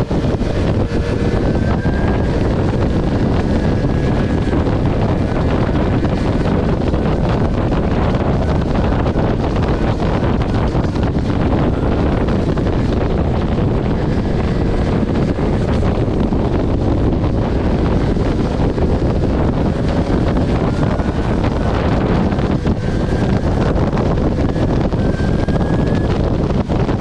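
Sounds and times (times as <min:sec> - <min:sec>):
faint rising whines: 0:00.0 - 0:27.0
wind rushing over microphone: 0:00.0 - 0:27.0.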